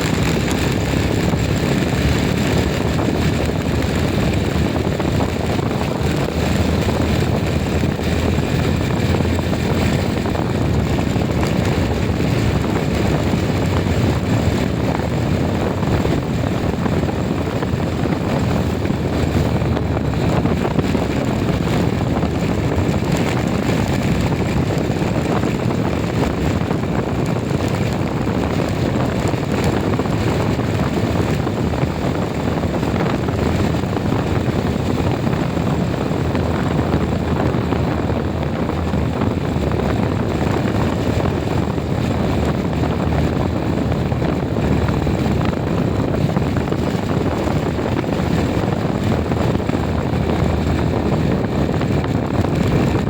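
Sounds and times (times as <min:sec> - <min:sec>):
vehicle running with road noise: 0:00.0 - 0:53.0.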